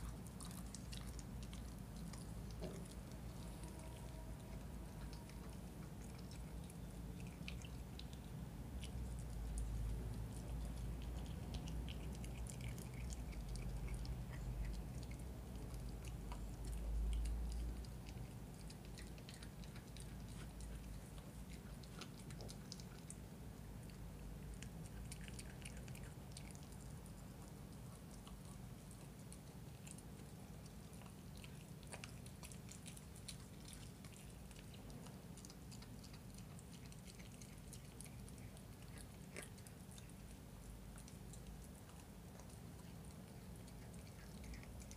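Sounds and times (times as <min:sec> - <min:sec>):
puppy chewing bone: 0:00.0 - 0:44.9.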